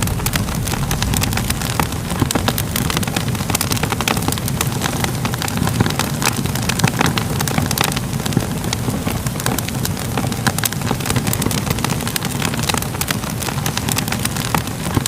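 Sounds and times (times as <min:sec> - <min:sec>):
crackling fire: 0:00.0 - 0:15.0.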